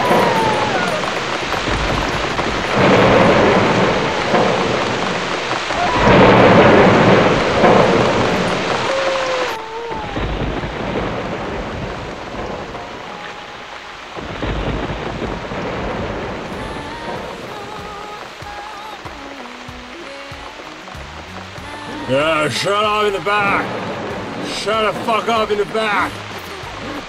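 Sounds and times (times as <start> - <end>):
rumbling thunder: 0.0 - 19.8, 21.0 - 27.0
heavy rain: 0.0 - 27.0.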